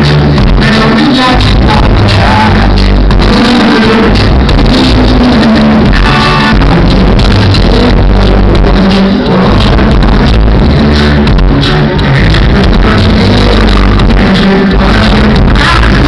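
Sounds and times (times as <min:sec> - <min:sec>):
live band with male singer: 0:00.0 - 0:16.0.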